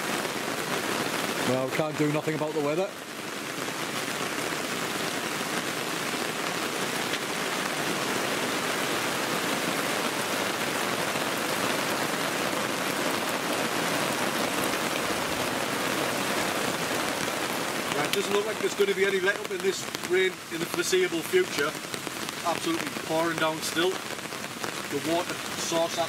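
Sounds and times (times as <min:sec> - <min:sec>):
heavy rain on a tarp: 0:00.0 - 0:26.0.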